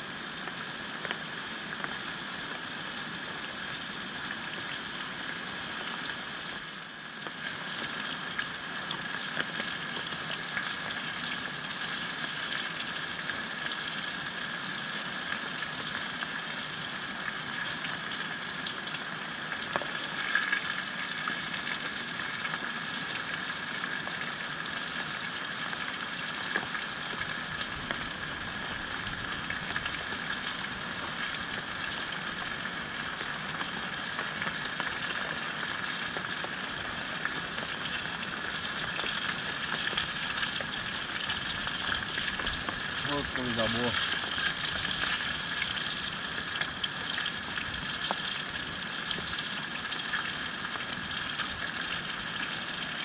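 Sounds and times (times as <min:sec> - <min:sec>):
fish sizzling in hot oil: 0:00.0 - 0:53.0.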